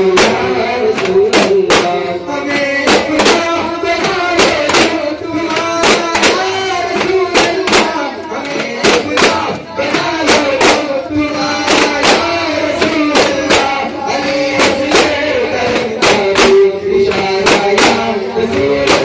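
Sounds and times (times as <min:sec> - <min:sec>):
frame drums beating: 0:00.0 - 0:19.0
voices singing a chant: 0:00.0 - 0:19.0.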